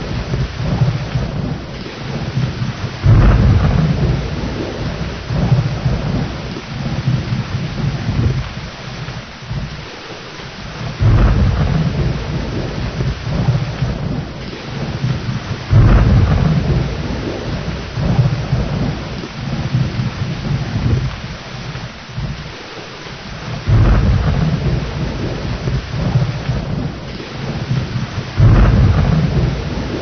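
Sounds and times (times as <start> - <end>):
steady rain: 0.0 - 30.0
thunder rumbles: 0.0 - 30.0.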